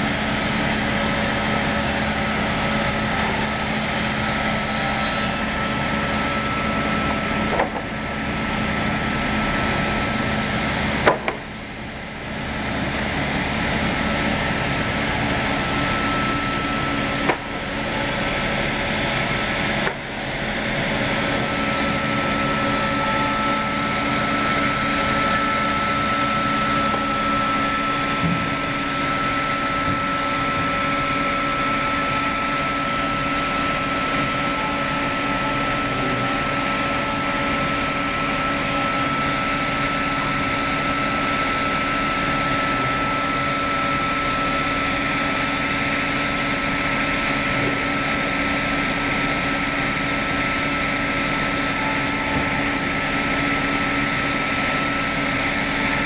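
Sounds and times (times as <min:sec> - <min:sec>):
circular saw blade whining: 0:00.0 - 0:56.0
machine noise: 0:00.0 - 0:56.0.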